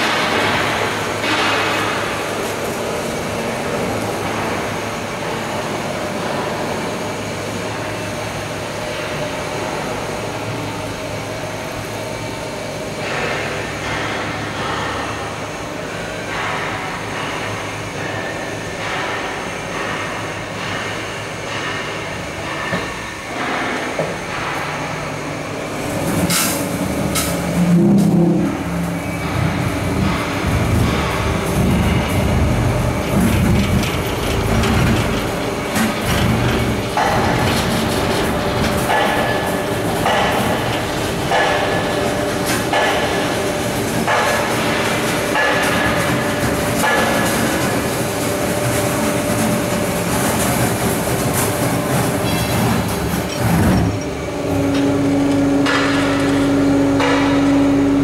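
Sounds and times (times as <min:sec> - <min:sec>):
crane machinery whirring: 0:00.0 - 0:58.0.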